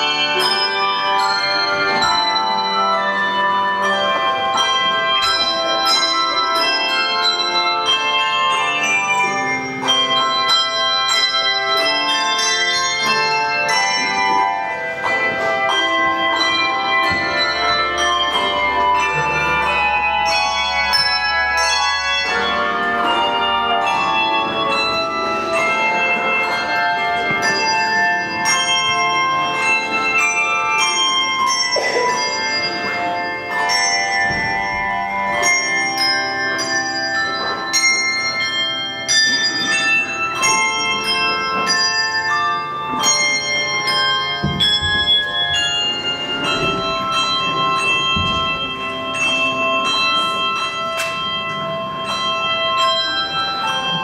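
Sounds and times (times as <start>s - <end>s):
handbell choir playing: 0.0s - 54.0s.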